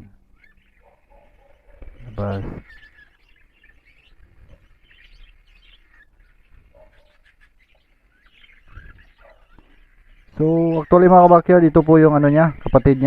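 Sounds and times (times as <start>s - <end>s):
lovebirds chirping faintly: 0.0s - 13.0s.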